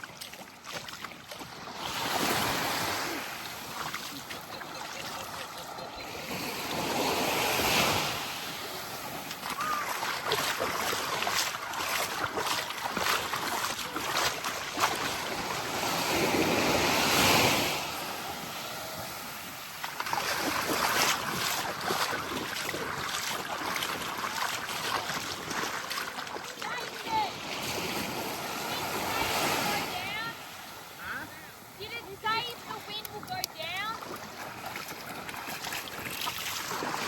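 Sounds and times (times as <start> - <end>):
small waves breaking on shore: 0.0 - 37.0
wind: 0.0 - 37.0.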